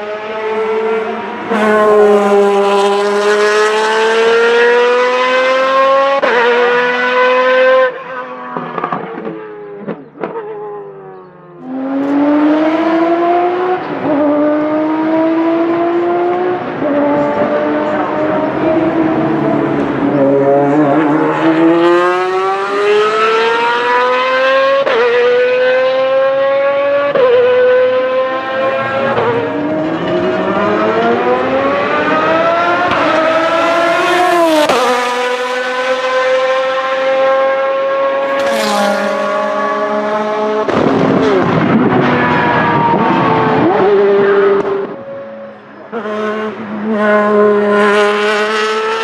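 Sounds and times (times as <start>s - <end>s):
race car engine accelerating: 0.0s - 49.0s
race car passing by: 0.0s - 49.0s.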